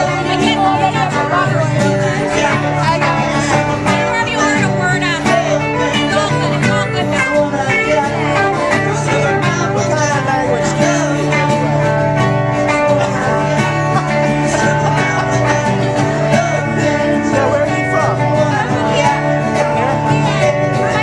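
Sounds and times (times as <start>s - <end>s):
guitar playing: 0.0s - 21.0s
person singing: 0.0s - 21.0s.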